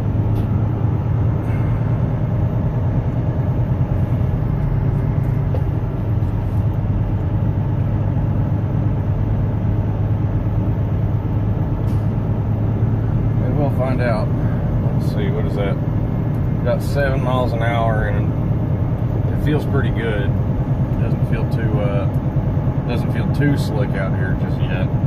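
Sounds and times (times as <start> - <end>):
truck engine drone: 0.0 - 25.0.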